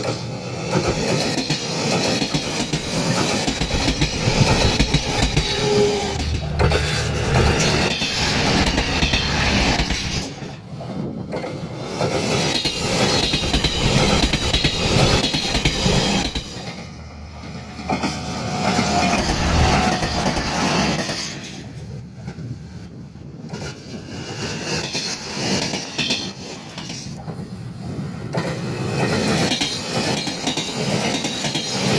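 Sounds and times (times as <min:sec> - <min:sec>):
train wheels clattering on rails: 0:00.0 - 0:22.4, 0:23.4 - 0:31.9.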